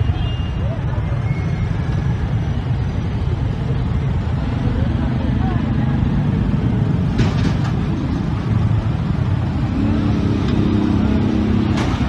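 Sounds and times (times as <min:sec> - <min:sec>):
motorcycle traffic: 0:00.0 - 0:12.0.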